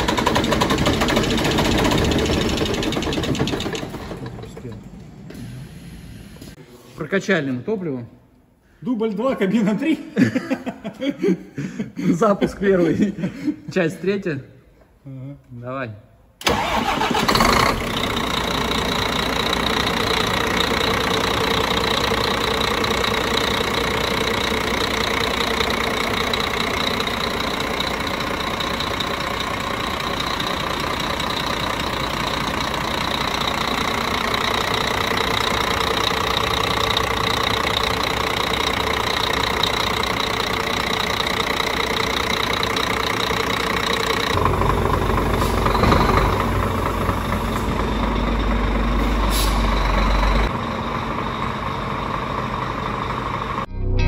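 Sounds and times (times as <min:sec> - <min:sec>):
diesel engine cranking and idling: 0:00.0 - 0:06.6, 0:16.4 - 0:54.0.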